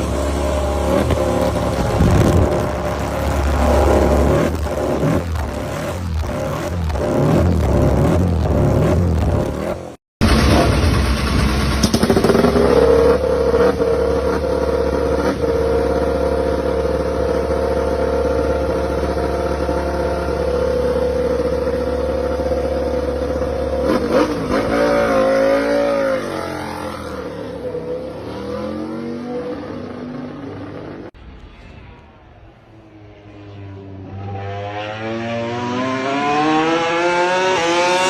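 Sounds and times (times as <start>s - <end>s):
racing motorcycle engine high revs: 0.0s - 31.1s, 34.0s - 38.0s.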